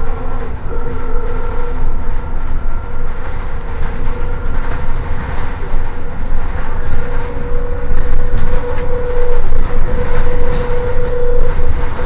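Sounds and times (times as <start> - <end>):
electric bus drive whine: 0.0 - 12.0
low rumble: 0.0 - 12.0.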